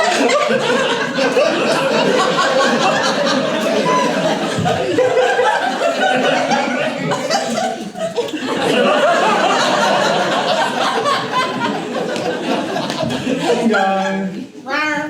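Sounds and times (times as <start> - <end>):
audience laughing: 0.0 - 14.5.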